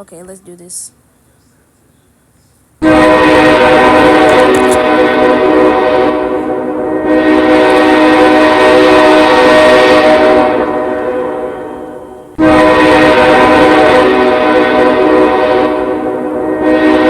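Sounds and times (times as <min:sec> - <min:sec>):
loud multi-tone horn chord: 0:02.8 - 0:17.0.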